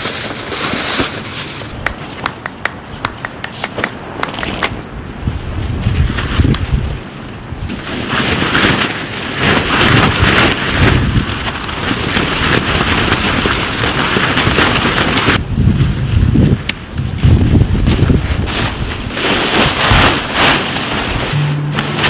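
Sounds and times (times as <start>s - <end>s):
tent fabric rustling and flapping: 0.0s - 1.8s, 4.4s - 22.0s
snow and ice crackling: 0.0s - 2.1s, 4.0s - 22.0s.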